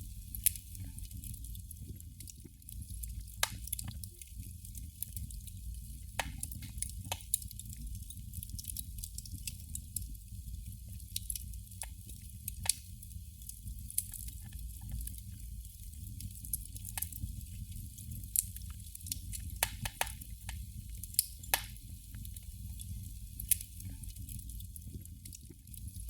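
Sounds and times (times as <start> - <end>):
candle flame crackling: 0.0 - 26.0.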